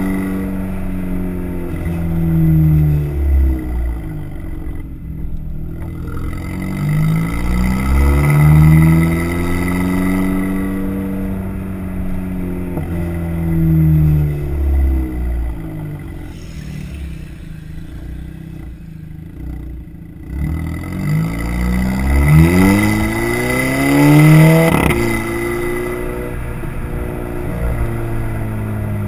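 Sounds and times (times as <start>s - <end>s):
car exhaust revving: 0.0s - 29.0s.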